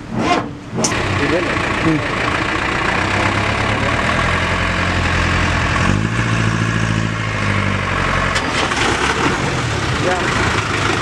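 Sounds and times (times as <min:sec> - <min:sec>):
diesel engine idling: 0:00.5 - 0:11.0.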